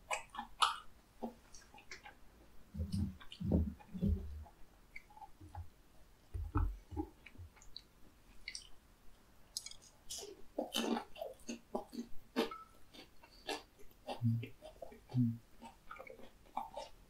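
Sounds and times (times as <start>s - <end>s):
soft chewing: 0.0s - 17.0s.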